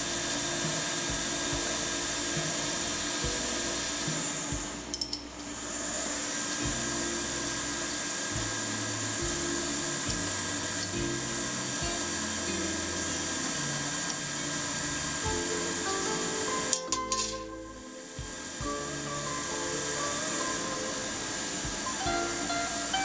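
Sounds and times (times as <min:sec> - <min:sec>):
background music bass: 0:00.0 - 0:23.0
metal cutting whine and hiss: 0:00.0 - 0:23.0.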